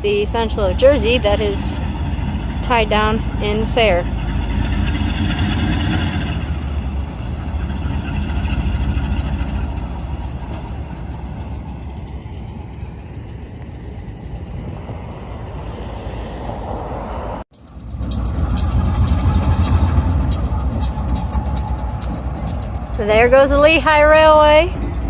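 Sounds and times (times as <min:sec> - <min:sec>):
diesel locomotives rumbling: 0:00.0 - 0:25.0.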